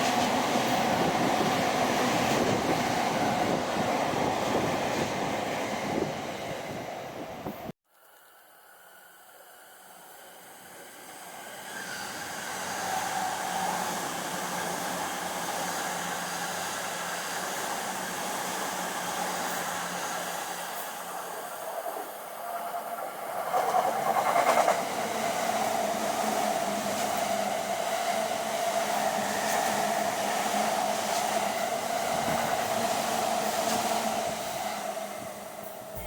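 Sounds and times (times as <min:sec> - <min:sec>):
electric train rushing by: 0:00.0 - 0:07.7, 0:09.9 - 0:36.0.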